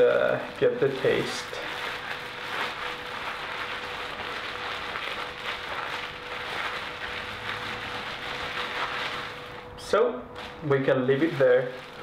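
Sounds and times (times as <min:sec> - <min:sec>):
faint steady hum: 0:00.0 - 0:12.0
plastic bag crinkling: 0:00.0 - 0:12.0.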